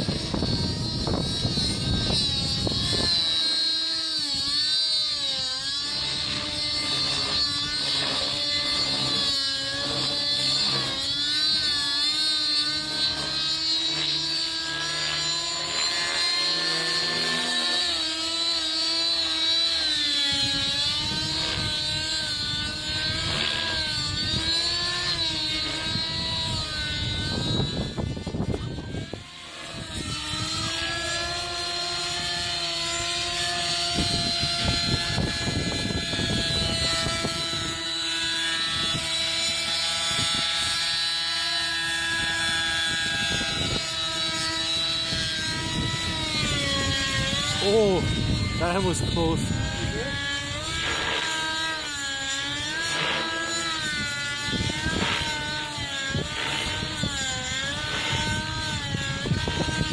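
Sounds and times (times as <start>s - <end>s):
helicopter rotor noise: 0.0s - 59.9s
model helicopter engine whine: 0.0s - 59.9s.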